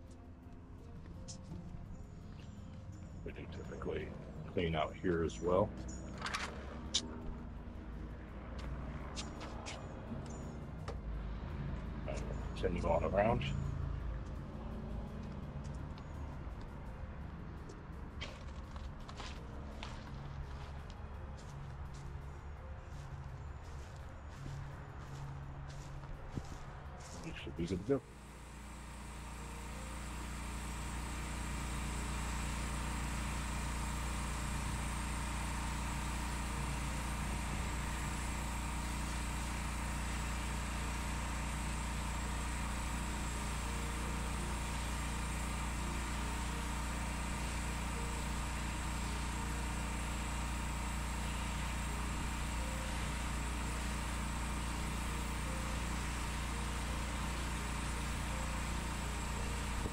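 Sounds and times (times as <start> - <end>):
pressure washer engine drone: 0.0 - 59.9.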